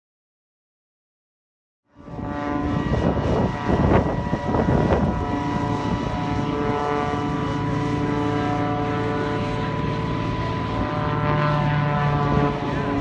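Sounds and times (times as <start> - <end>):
propeller aircraft engine drone: 1.9 - 13.0.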